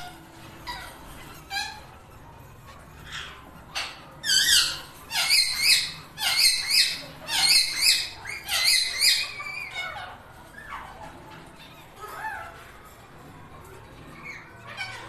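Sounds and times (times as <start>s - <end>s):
parrot chicks begging calls: 0.0s - 15.0s.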